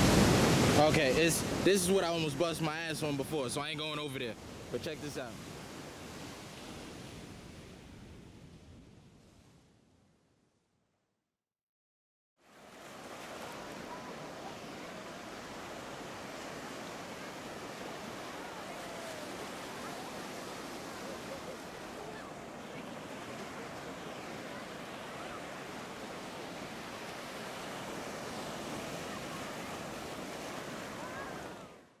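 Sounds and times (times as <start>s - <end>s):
ocean surf washing in: 0.0s - 9.0s, 12.4s - 32.0s.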